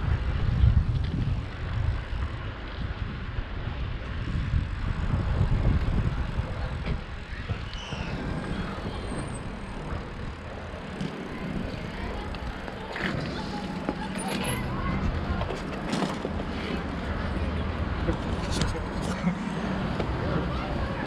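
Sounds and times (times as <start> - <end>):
road noise: 0.0 - 21.0
wind rumbling on microphone: 0.0 - 21.0.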